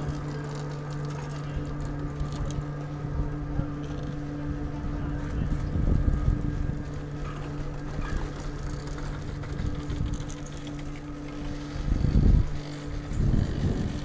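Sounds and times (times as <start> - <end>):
chairlift mechanical hum: 0.0 - 14.0.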